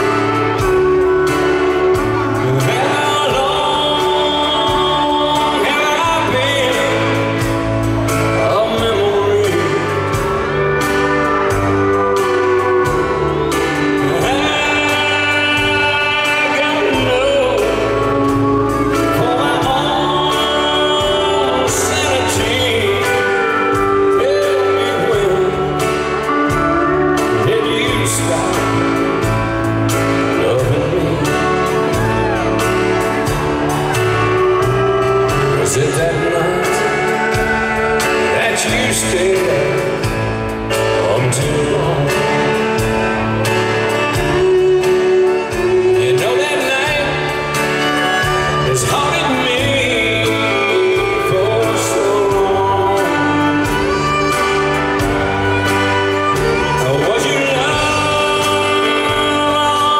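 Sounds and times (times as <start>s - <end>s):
country band with guitar and drums: 0.0s - 59.9s
man singing slow ballad: 0.0s - 59.9s.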